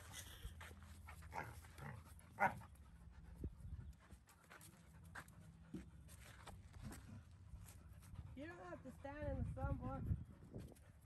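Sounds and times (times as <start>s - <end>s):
puppies panting: 0.0s - 11.0s.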